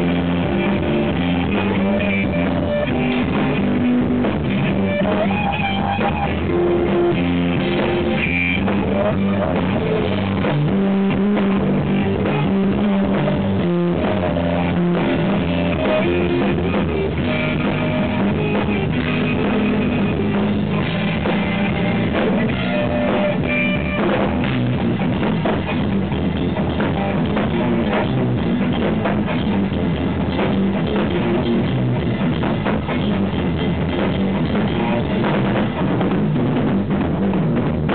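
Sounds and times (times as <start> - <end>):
jazz-rock trio playing: 0.0 - 37.9.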